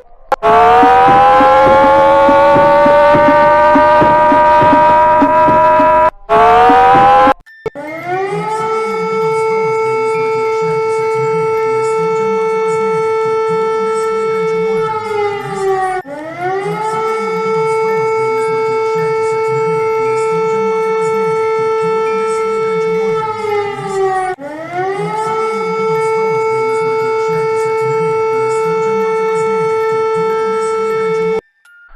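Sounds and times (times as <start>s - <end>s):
warning siren wailing: 0.0s - 31.4s.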